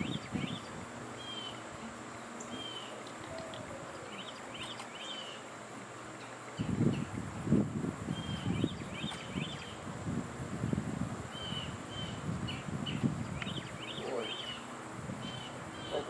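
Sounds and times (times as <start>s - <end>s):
small birds chirping: 0.0s - 7.2s, 8.1s - 9.8s, 10.7s - 16.0s
faint high insect drone: 0.0s - 16.0s.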